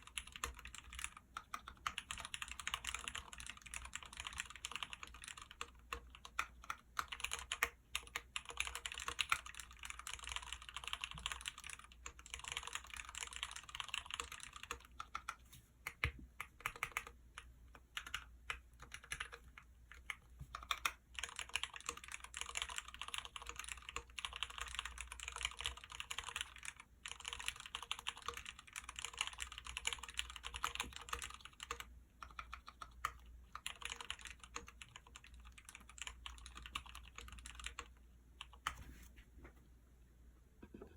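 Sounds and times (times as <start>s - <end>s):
typing on mechanical keyboard: 0.0s - 38.8s.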